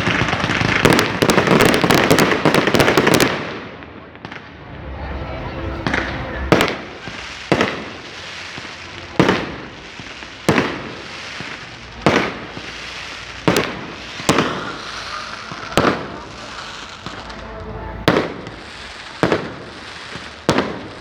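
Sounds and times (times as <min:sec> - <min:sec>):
firecrackers banging: 0:00.0 - 0:21.0.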